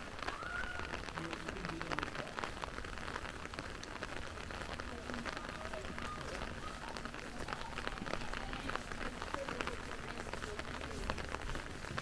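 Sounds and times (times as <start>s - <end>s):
rain hiss: 0.0s - 12.0s
raindrops ticking on hard surfaces: 0.0s - 12.0s.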